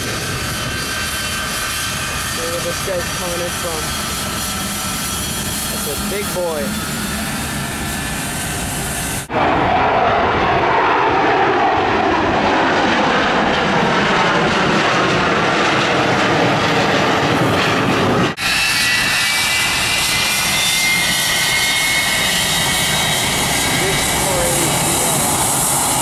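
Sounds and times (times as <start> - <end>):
jet engines rushing and whining: 0.0 - 26.0.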